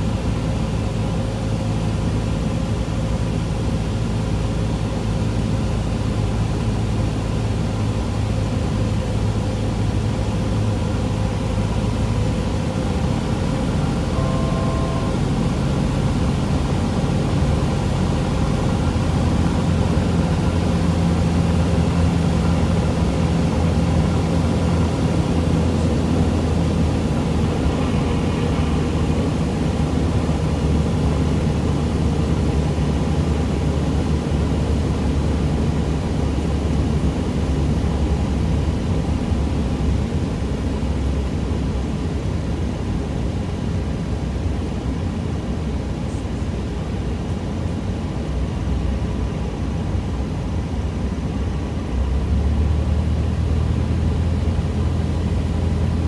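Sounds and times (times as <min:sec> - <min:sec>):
airplane engine and propeller: 0:00.0 - 0:56.0.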